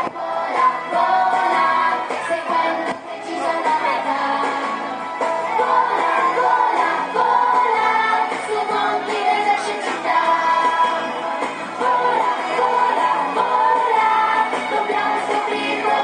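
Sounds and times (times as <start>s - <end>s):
song with singing voices: 0.0s - 16.0s.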